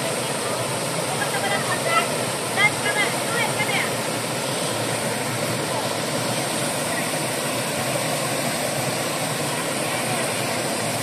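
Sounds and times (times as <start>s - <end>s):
waterfall pouring over rocks: 0.0s - 11.0s.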